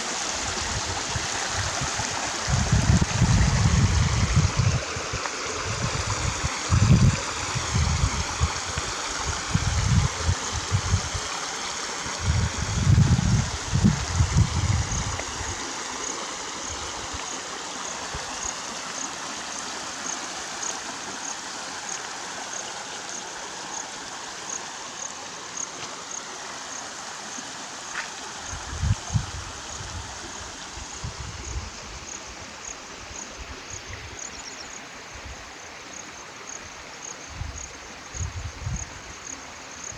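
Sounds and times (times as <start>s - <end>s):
stream water running over rocks: 0.0s - 39.9s.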